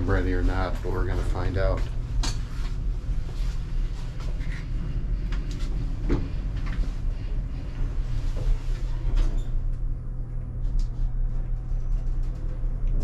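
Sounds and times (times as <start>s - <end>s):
elevator rumble and hum: 0.0s - 13.0s.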